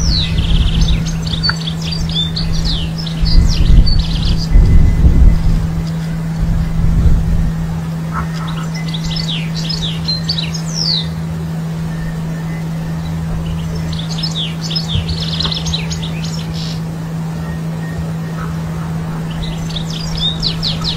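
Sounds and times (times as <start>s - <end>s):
finch twittering song: 0.0s - 20.9s
steady low hum: 0.0s - 20.9s.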